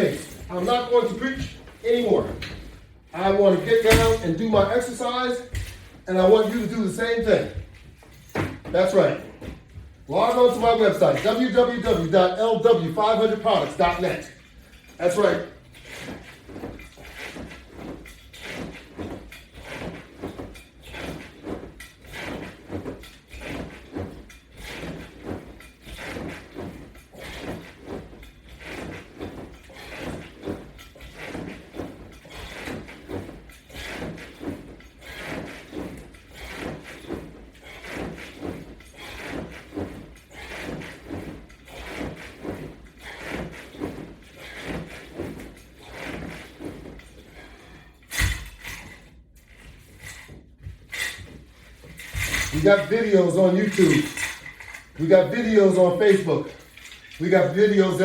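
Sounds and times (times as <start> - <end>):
exercise machine knocking and rubbing: 0.0 - 58.0.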